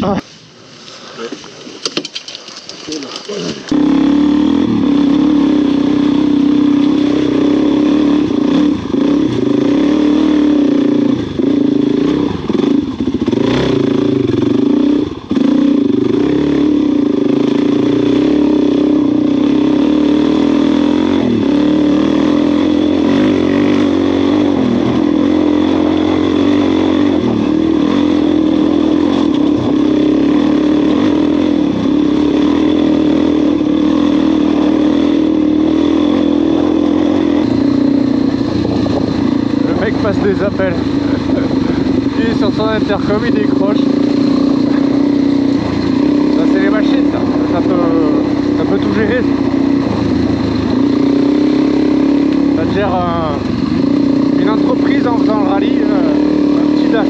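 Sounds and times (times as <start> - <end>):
dirt bike engine running: 1.2 - 57.0.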